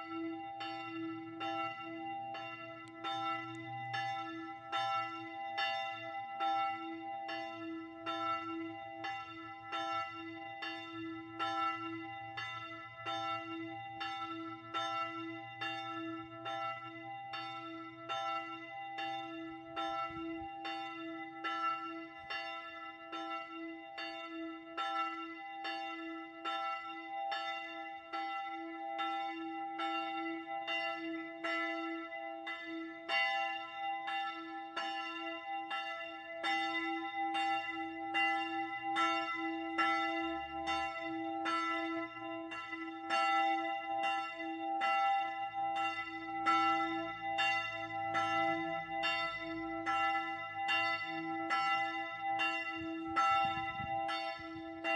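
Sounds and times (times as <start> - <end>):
church bell ringing: 0.0 - 54.9.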